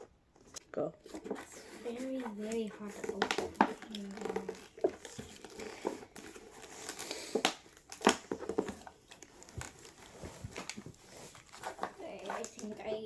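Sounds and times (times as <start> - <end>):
packaging crinkling and tearing: 0.5 - 13.0.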